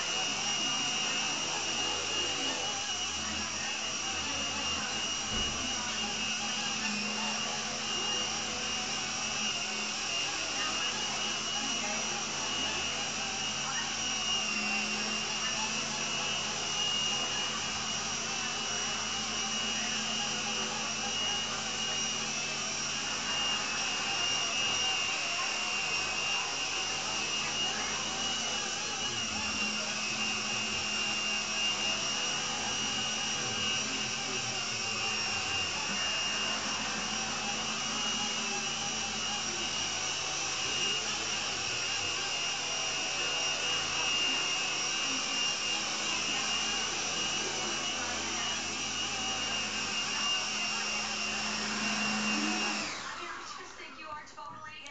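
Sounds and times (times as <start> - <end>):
high motor whine: 0.0 - 54.0
rotors buzzing: 0.0 - 54.9.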